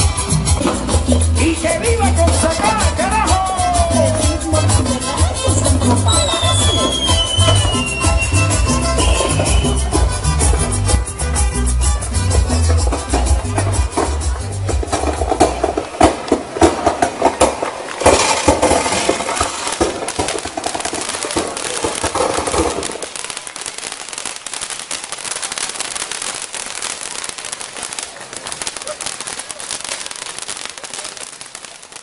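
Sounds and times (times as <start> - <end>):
crowd voices: 0.0 - 32.0
firecrackers crackling: 0.0 - 32.0.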